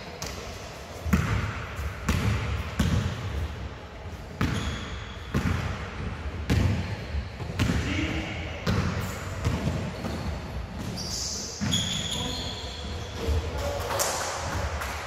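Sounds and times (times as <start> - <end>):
basketball bouncing echoing: 0.0 - 15.0.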